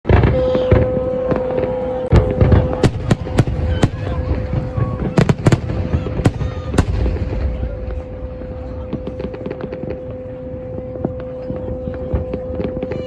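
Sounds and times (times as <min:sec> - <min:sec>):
distant fireworks rumble: 0:00.1 - 0:13.0
fireworks bangs: 0:00.1 - 0:13.0.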